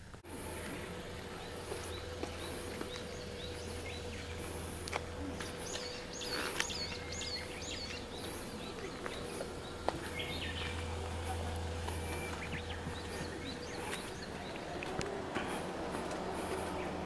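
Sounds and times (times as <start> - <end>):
faint hum: 0.0 - 17.0
birds chirping: 0.2 - 17.0.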